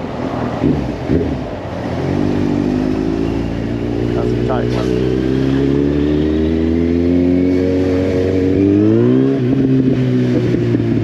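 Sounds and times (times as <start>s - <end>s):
motorcycle engine revving: 0.5s - 11.0s.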